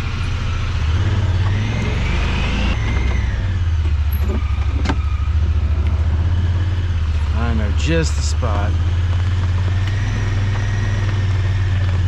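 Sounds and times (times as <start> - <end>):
rising and falling whine: 0.0 - 12.0
vehicle engine throbbing: 0.0 - 12.0.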